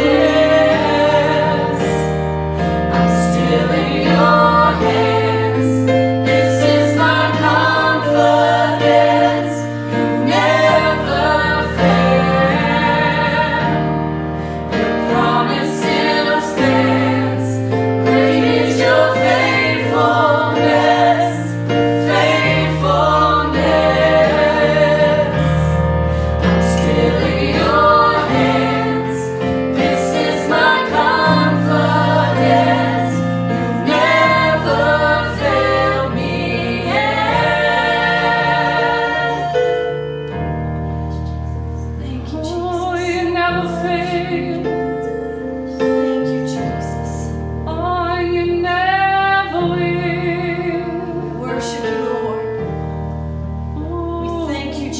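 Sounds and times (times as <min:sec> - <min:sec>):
voices singing together: 0:00.0 - 0:52.9
bass and keyboard chords: 0:00.0 - 0:54.9.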